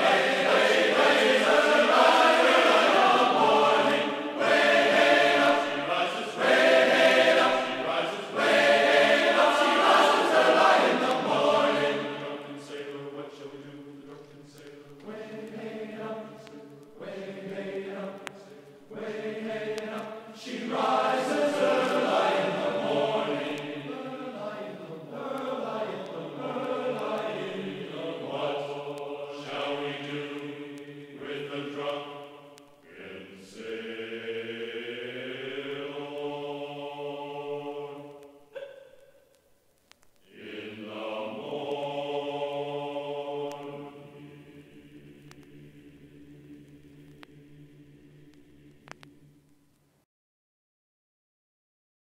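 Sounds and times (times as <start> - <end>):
choir singing slow chant: 0.0 - 39.3, 40.2 - 49.6.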